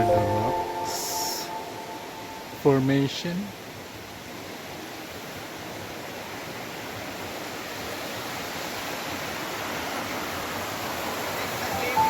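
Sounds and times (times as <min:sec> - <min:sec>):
river water roaring: 0:00.0 - 0:12.0.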